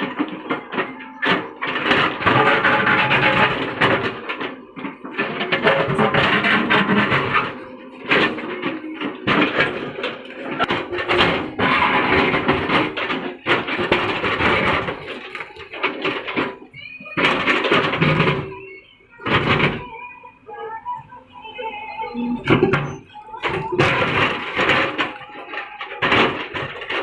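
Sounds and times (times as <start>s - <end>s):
music playing: 0.0s - 27.0s.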